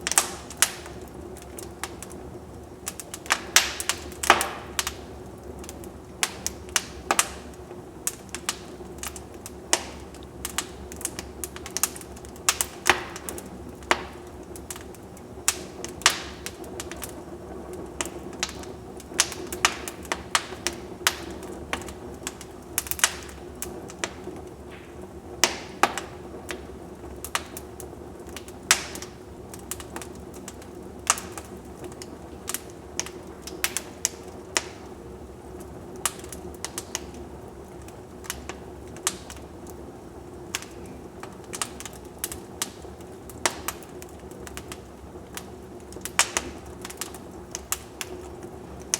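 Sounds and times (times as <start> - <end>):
low rush of flames: 0.0 - 48.9
wood fire crackling: 0.0 - 48.9.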